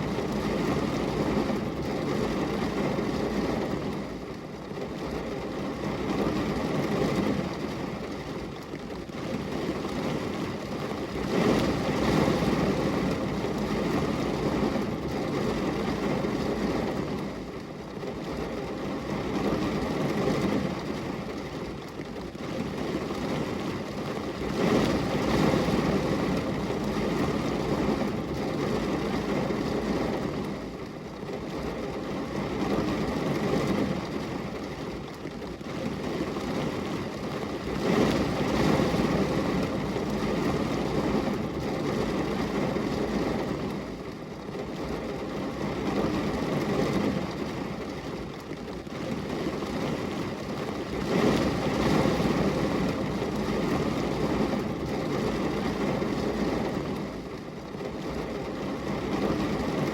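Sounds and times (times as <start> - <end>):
rain on a glass window: 0.0 - 59.9.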